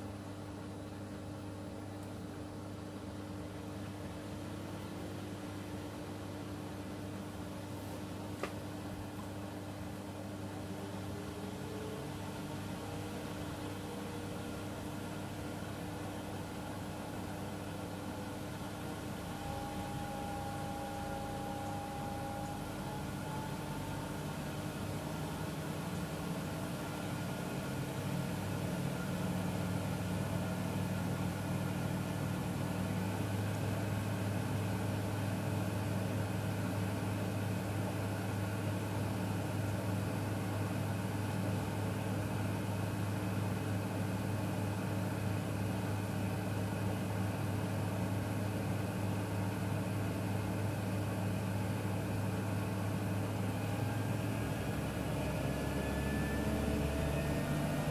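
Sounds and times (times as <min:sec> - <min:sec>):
washing machine motor hum: 0:00.0 - 0:57.9.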